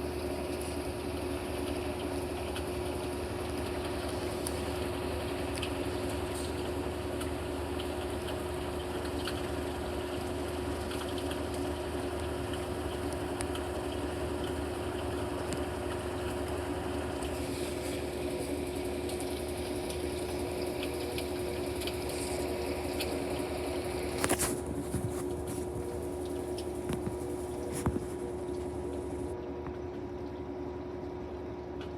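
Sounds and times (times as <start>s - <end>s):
washing machine clatter: 0.0s - 29.4s
washing machine spinning: 0.0s - 31.9s.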